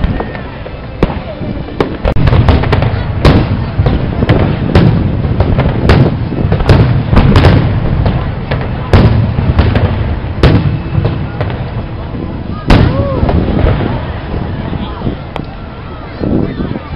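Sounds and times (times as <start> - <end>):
firework shells booming: 0.0 - 12.0, 12.6 - 14.6.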